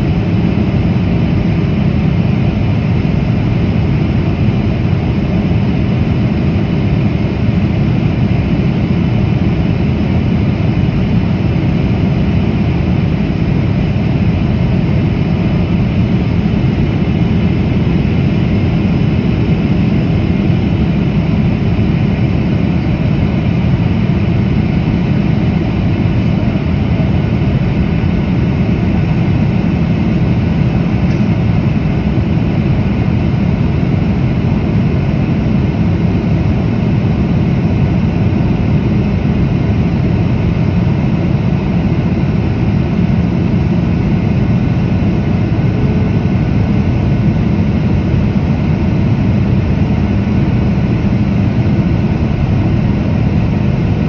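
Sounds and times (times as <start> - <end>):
air rushing along fuselage: 0.0 - 54.0
faint steady whine: 0.0 - 54.0
jet engine drone: 0.0 - 54.0.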